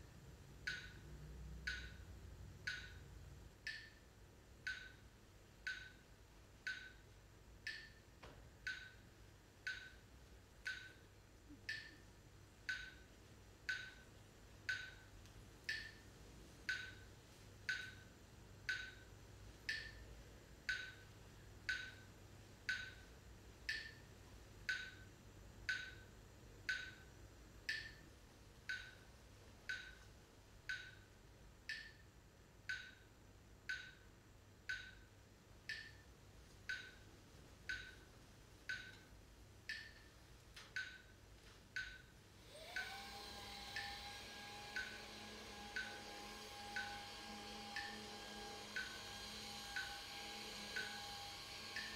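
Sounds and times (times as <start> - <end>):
steady ticking: 0.2 - 51.9.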